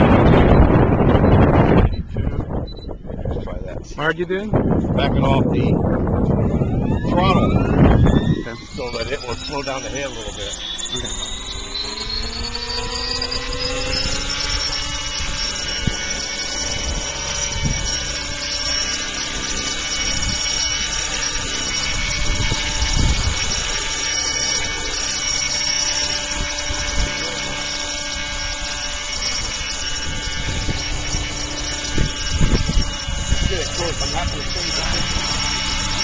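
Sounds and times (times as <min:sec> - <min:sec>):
helicopter motor whine: 0:00.0 - 0:36.0
wind on microphone: 0:00.0 - 0:36.0.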